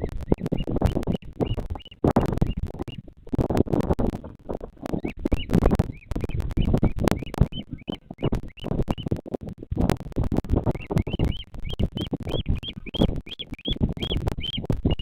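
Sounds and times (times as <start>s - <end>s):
bird chick peeping: 0.0s - 15.0s.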